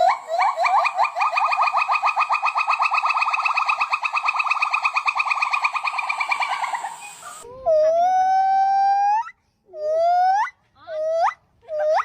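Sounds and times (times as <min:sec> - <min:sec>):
gibbon trilling call: 0:00.0 - 0:12.0.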